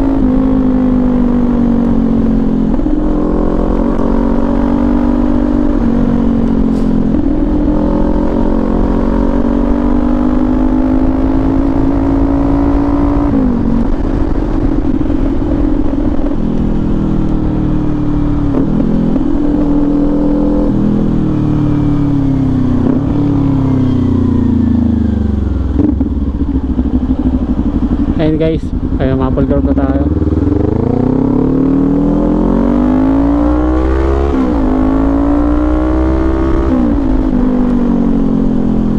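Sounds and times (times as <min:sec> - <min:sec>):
motorcycle engine running: 0:00.0 - 0:33.3.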